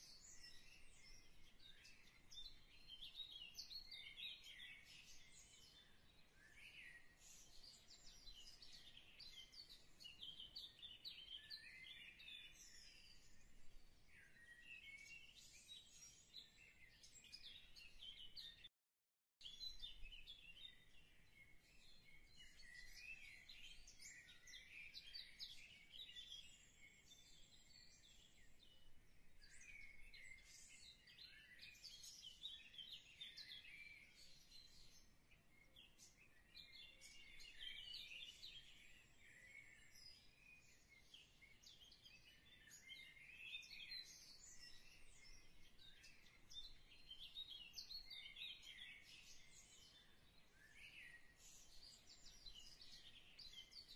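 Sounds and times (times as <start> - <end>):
small birds chirping: 0.0 - 18.7, 19.4 - 53.9.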